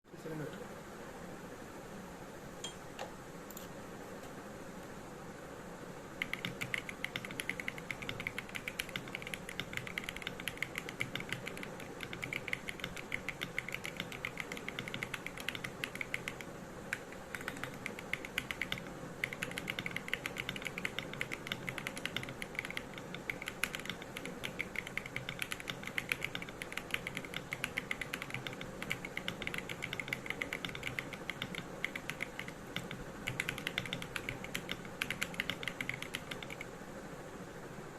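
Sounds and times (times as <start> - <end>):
mechanical keyboard typing: 6.2 - 36.8.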